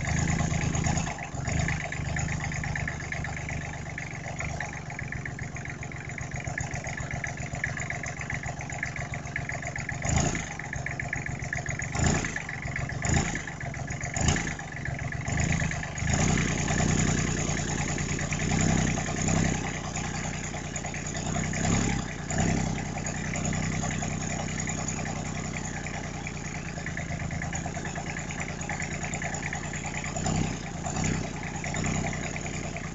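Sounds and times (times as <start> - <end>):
small diesel engine running: 0.0 - 32.9.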